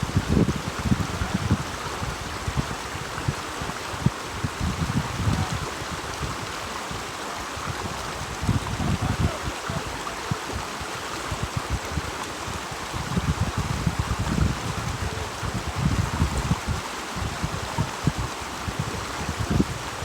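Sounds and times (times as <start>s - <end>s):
creek water rushing: 0.0s - 20.0s
wind buffeting microphone: 0.0s - 20.0s.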